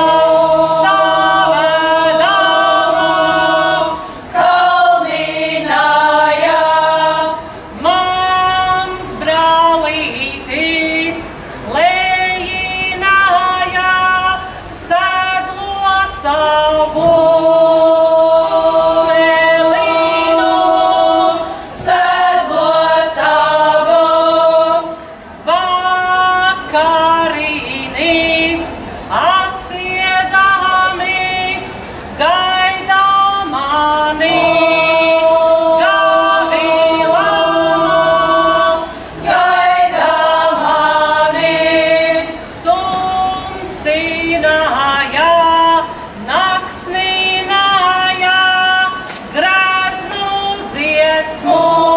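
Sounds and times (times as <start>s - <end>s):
women singing folk song in parts: 0.0s - 51.9s.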